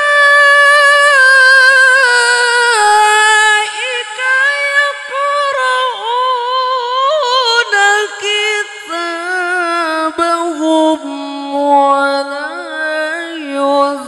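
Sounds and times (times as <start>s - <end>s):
man reciting in sustained singing voice: 0.0s - 14.0s.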